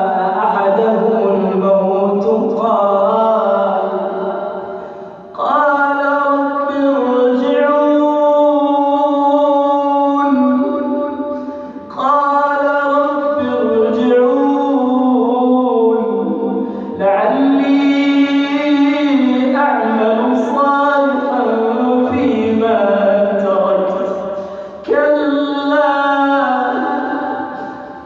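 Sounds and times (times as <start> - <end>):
man reciting melodically: 0.0 - 28.0.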